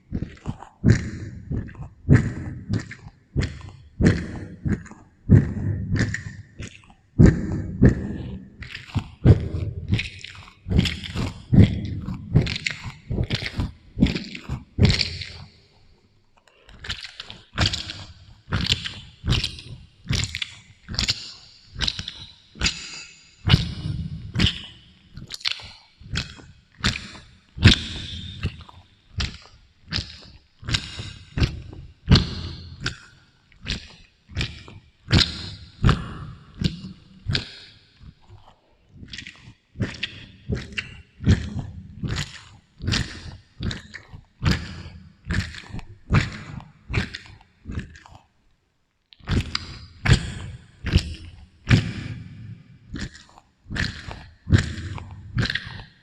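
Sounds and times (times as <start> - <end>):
crunchy fruit chewing with echo: 0.0 - 56.0.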